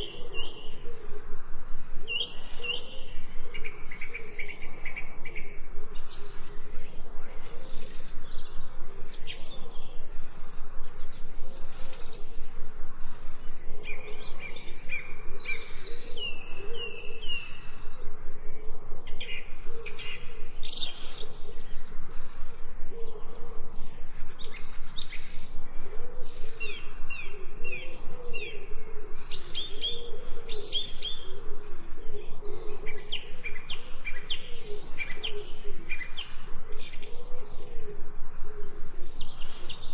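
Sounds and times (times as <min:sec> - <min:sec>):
forest birds chirping: 0:00.0 - 0:39.9
low wavering calls: 0:00.0 - 0:39.9.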